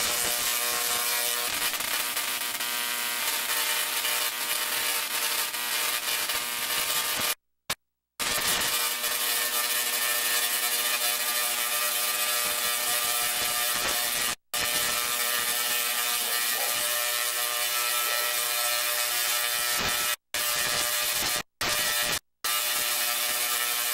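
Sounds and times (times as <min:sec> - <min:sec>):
electric arcs crackling buzz: 0:00.0 - 0:07.4, 0:08.2 - 0:23.9.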